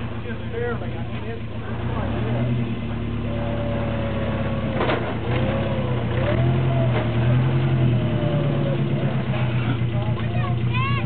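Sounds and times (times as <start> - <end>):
truck engine revving under load: 0.0 - 11.0.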